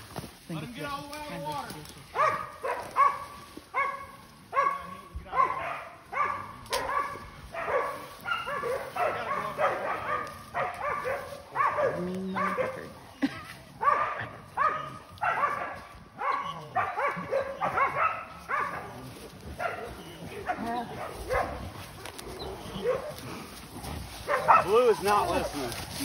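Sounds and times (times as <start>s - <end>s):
dogs barking: 2.0s - 26.0s.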